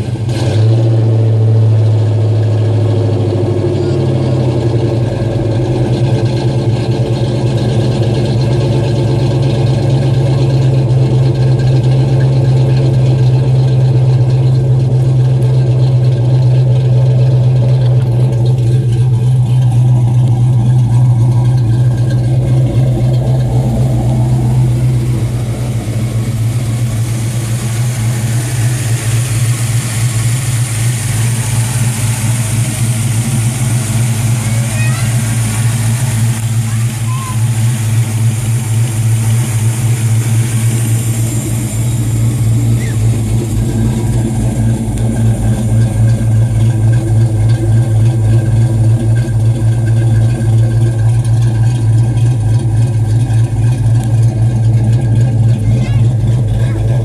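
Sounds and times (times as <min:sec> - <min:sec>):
car engine idling: 0:00.0 - 0:57.0
engine hiss: 0:00.0 - 0:57.0.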